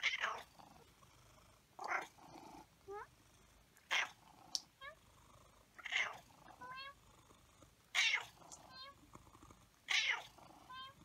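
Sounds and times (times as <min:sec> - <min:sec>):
cat grumbling and chirping: 0:00.0 - 0:11.0.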